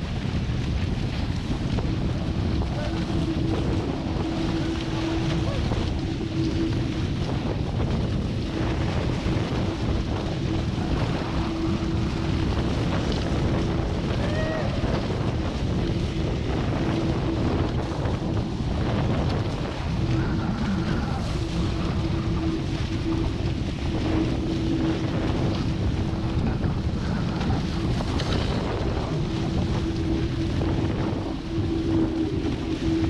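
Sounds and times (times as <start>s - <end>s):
steady hum: 0.0s - 33.0s
water splashing along hull: 0.0s - 33.0s
wind buffeting microphone: 0.0s - 33.0s.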